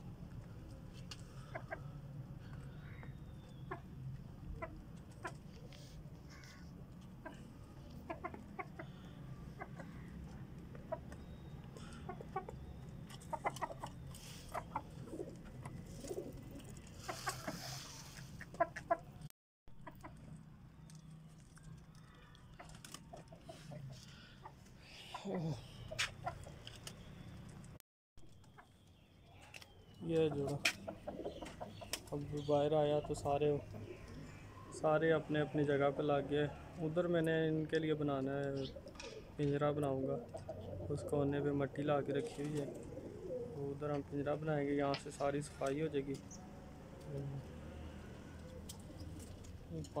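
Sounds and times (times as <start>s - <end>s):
chickens clucking: 1.1s - 6.0s, 6.9s - 20.4s, 22.0s - 27.0s, 30.0s - 34.5s, 35.5s - 47.6s.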